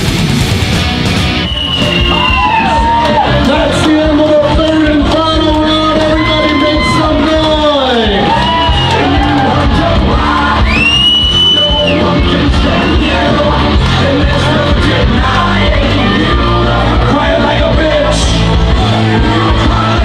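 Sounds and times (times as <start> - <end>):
crowd yelling and shouting: 0.0 - 20.0
loud rock music with singing: 0.0 - 20.0.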